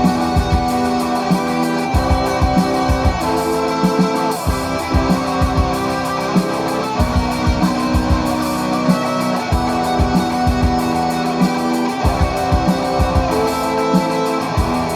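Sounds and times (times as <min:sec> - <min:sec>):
guitar playing held notes: 0:00.0 - 0:14.9
steady drum beat: 0:00.0 - 0:14.9.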